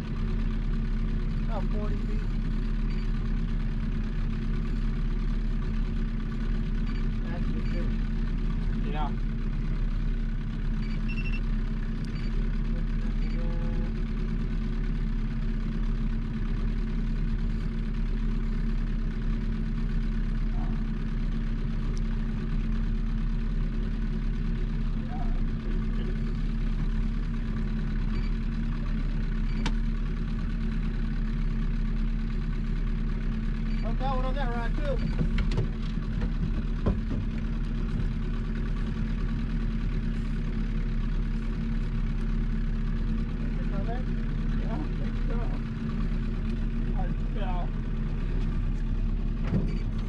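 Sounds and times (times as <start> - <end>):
boat motor running: 0.0 - 50.0.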